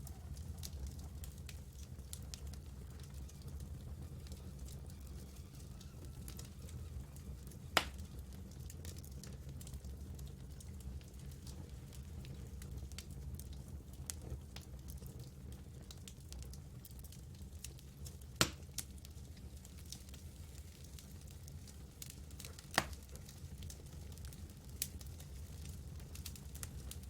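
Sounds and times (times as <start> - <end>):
campfire rumble: 0.0 - 27.0
light crackling: 0.0 - 27.0.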